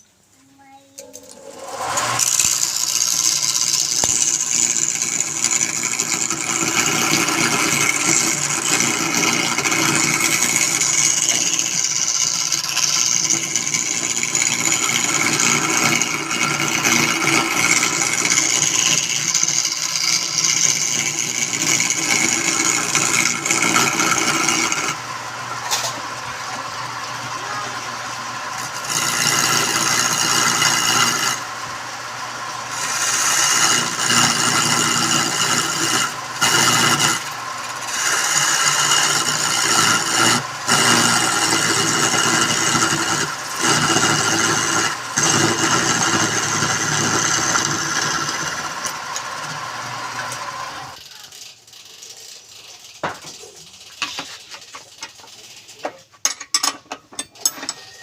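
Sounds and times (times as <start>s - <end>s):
turning tool scraping wood: 0.8s - 56.4s
wood lathe humming: 0.9s - 55.8s.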